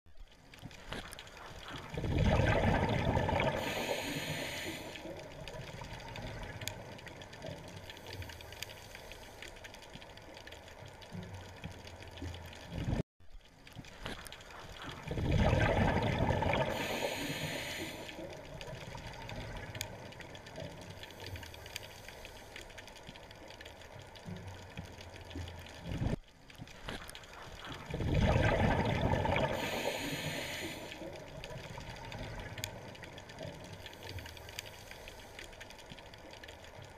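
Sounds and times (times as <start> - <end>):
faint crackle: 0.1 - 36.9
quiet gurgling: 0.1 - 36.9
underwater exhaust bubbles: 0.2 - 13.0, 13.9 - 36.9.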